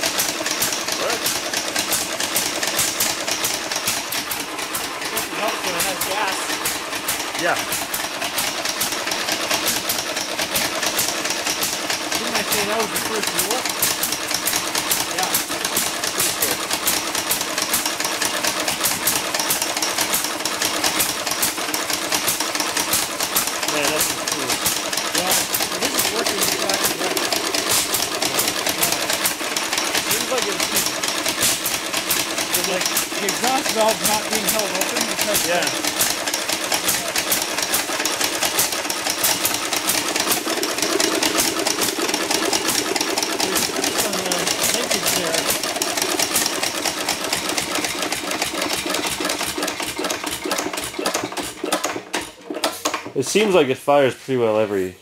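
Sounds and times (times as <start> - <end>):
stationary engine running fast: 0.0 - 53.7.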